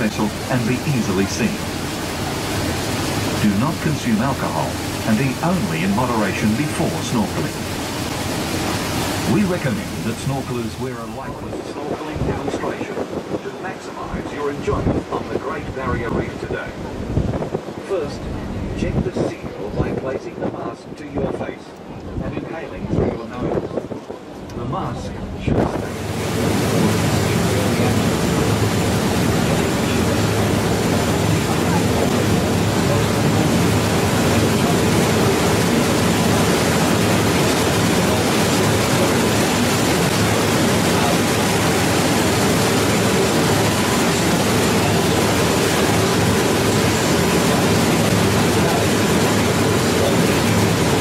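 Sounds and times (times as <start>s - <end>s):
boat engines droning: 0.0s - 20.7s, 24.0s - 51.0s
wind and sea rushing: 0.0s - 51.0s.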